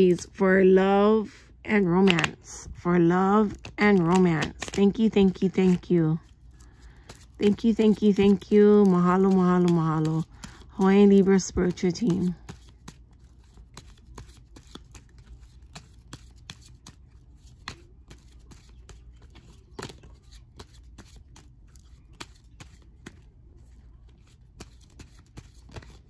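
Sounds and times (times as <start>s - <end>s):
playing cards being shuffled: 1.8s - 2.5s, 3.3s - 26.0s.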